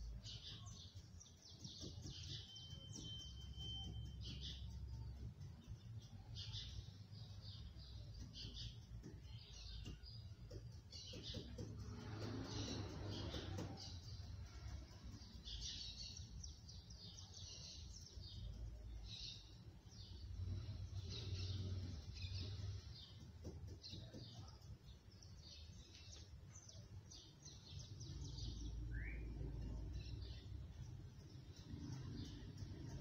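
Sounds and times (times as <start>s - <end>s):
birds chirping: 0.0s - 33.0s
low steady hum: 0.0s - 33.0s.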